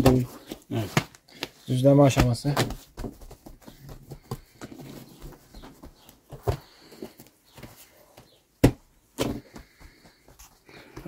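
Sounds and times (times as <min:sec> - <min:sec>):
hands patting dough: 0:00.0 - 0:11.0
soft rustling: 0:00.2 - 0:11.0.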